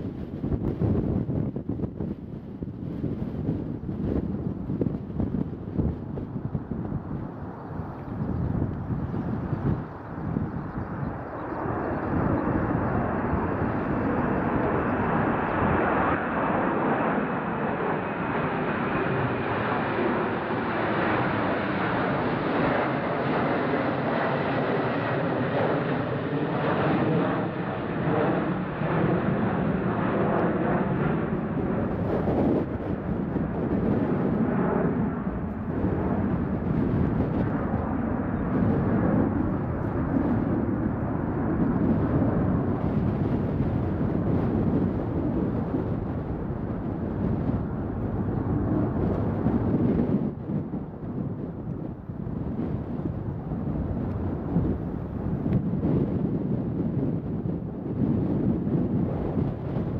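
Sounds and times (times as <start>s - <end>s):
jet engines passing overhead: 0.0s - 59.9s
wind on microphone: 0.0s - 59.9s.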